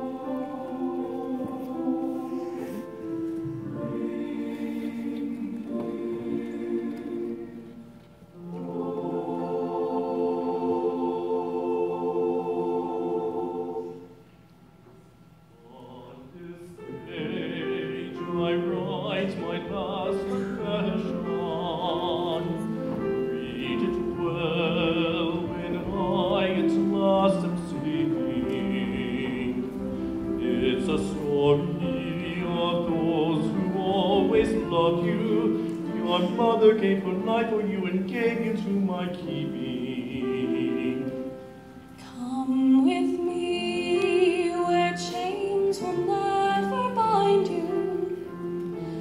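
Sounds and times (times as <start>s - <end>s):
piano accompaniment: 0.0s - 14.2s, 16.2s - 49.0s
choir holding a chord: 0.0s - 14.4s, 15.6s - 49.0s.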